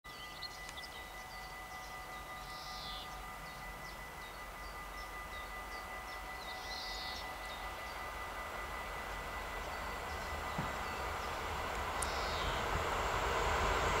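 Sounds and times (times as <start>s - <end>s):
birds chirping: 0.1s - 12.8s
distant train rumble: 0.1s - 14.0s.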